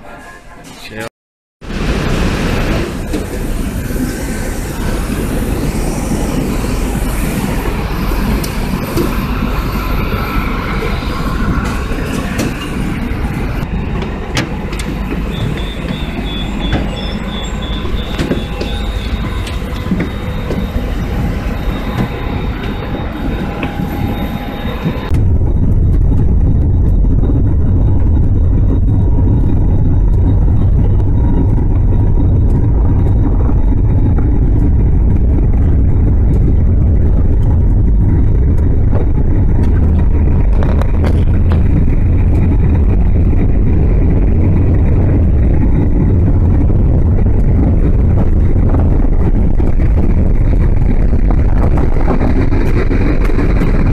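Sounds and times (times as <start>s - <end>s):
airliner cabin rumble: 1.6s - 53.9s
jet engines whining: 1.6s - 53.9s.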